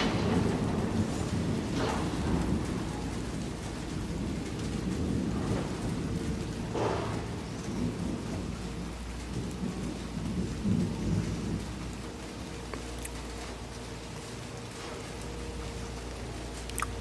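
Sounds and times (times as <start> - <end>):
distant thunder rumbling: 0.0 - 17.0
falling rain: 0.0 - 17.0.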